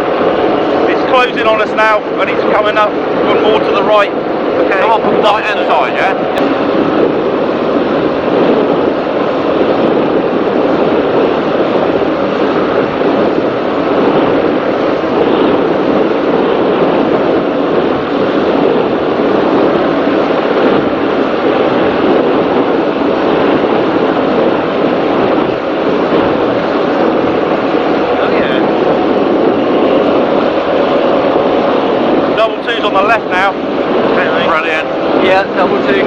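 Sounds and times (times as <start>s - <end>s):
powerboat running at speed: 0.0s - 36.0s.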